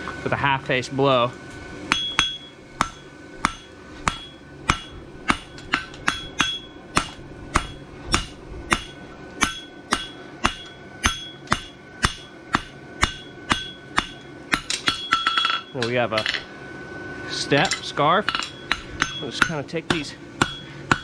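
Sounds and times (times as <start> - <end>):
hammer striking steel on anvil: 1.9 - 16.5, 17.5 - 21.0.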